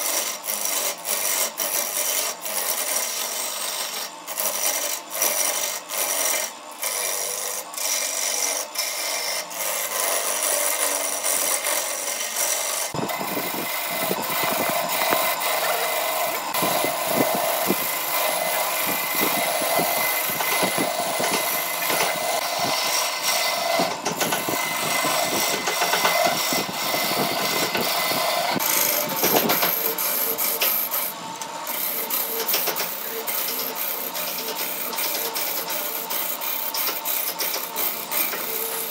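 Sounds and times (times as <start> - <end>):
lathe tool shaving wood: 0.0 - 38.9.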